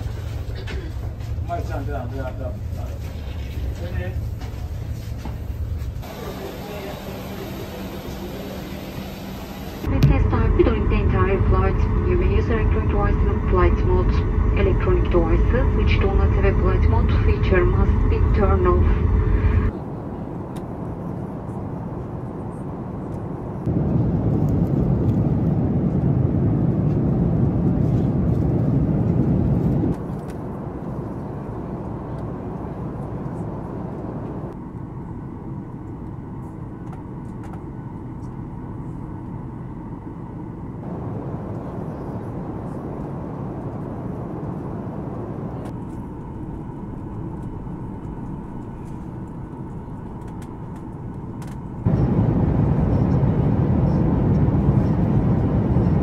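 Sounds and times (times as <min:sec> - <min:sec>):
jet airliner cabin noise: 0:00.0 - 0:56.0.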